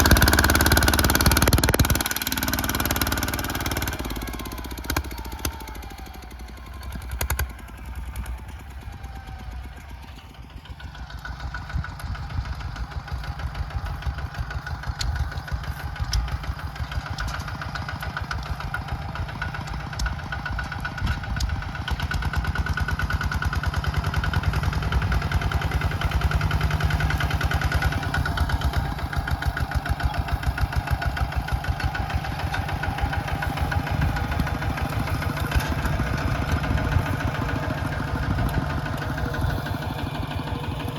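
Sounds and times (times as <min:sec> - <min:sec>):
tractor engine pulsing: 0:00.0 - 0:40.9.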